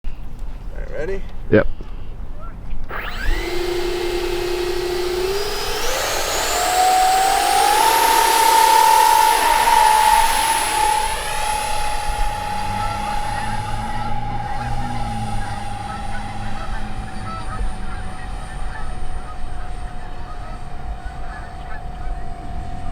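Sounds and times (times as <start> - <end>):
electric ducted fans whining: 2.8 - 22.9.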